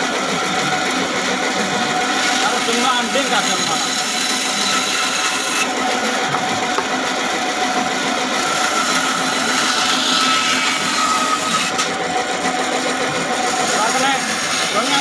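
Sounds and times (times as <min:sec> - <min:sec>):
bandsaw cutting wood: 0:00.0 - 0:15.0.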